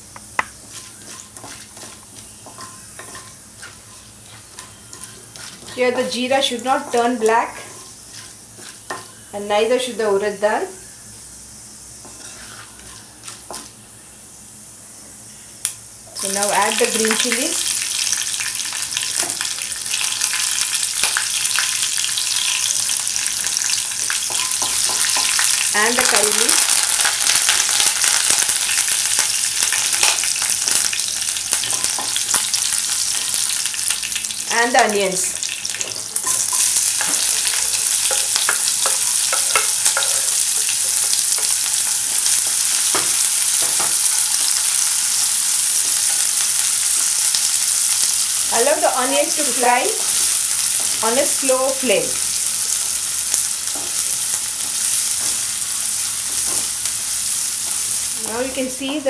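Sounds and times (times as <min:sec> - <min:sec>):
spices sizzling in hot oil: 0:00.0 - 0:10.6, 0:11.2 - 0:15.0, 0:15.7 - 0:59.0.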